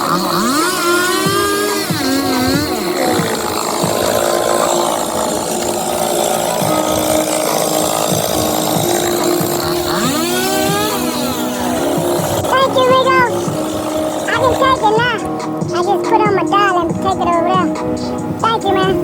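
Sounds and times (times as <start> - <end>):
chainsaw engine running: 0.0 - 18.9.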